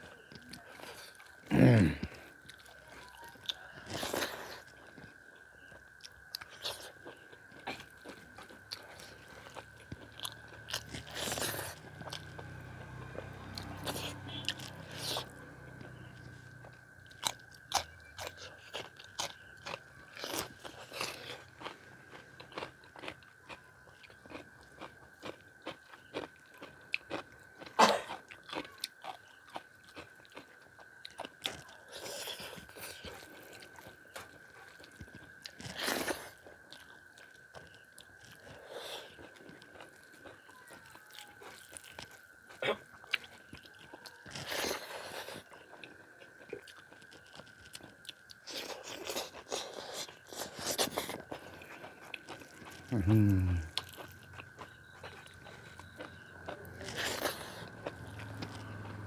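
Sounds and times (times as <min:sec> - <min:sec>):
faint high hum: 0:00.0 - 0:59.0
wet chewing clicks: 0:00.2 - 0:59.0
man crunching cucumber: 0:00.3 - 0:04.8, 0:06.0 - 0:59.0.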